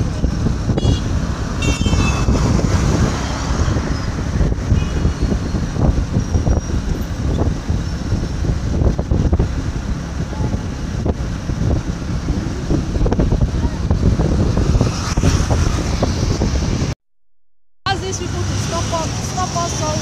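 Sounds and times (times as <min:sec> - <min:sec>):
motorcycle engine and road noise: 0:00.0 - 0:17.0, 0:17.9 - 0:20.0
passing traffic: 0:00.0 - 0:17.0, 0:17.8 - 0:20.0
wind rushing over microphone: 0:00.0 - 0:17.0.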